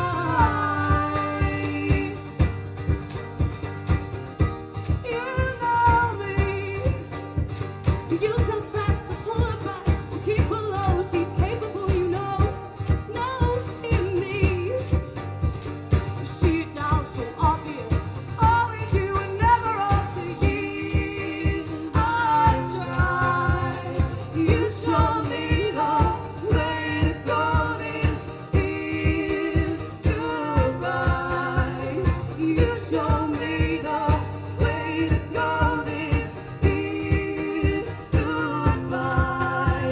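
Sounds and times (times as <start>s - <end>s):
person singing: 0.0s - 2.7s, 5.0s - 15.2s, 16.2s - 39.9s
band beat: 0.0s - 39.9s.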